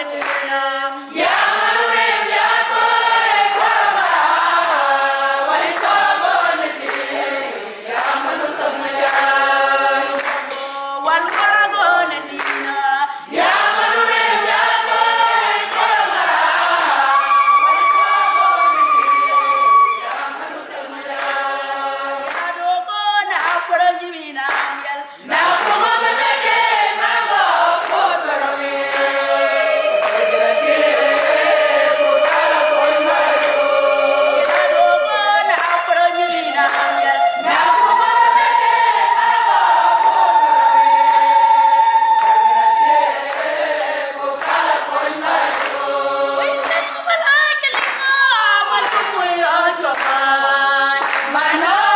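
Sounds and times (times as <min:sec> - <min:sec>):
women singing in harmony: 0:00.0 - 0:51.9.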